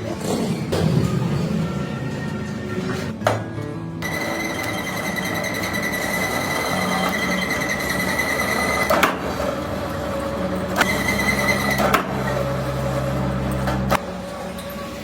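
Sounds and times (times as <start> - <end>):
machinery high whine: 0.0 - 15.0
machinery low hum: 0.0 - 15.0.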